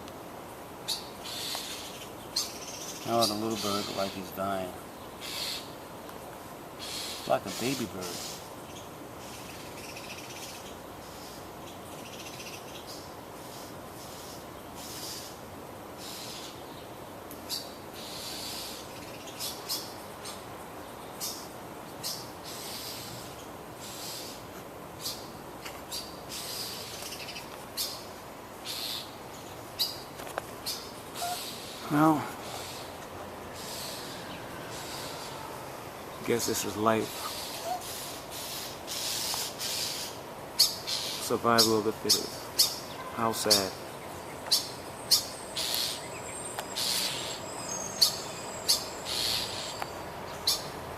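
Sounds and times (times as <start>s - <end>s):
bird alarm calls: 0.8s - 5.8s, 6.8s - 15.4s, 17.4s - 20.4s, 21.2s - 35.6s, 36.2s - 50.8s.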